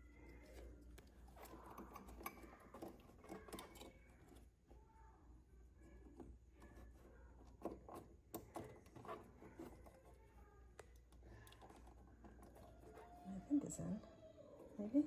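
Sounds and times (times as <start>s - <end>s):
faint plastic clicks and rubbing: 0.0s - 14.8s.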